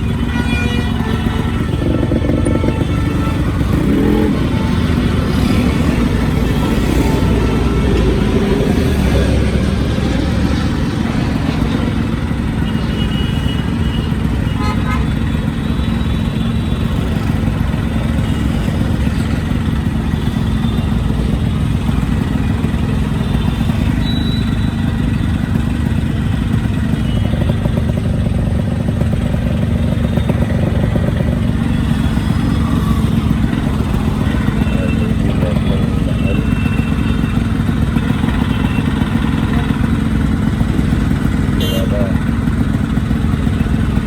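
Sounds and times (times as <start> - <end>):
two-stroke motorcycle engine running: 0.0 - 44.0.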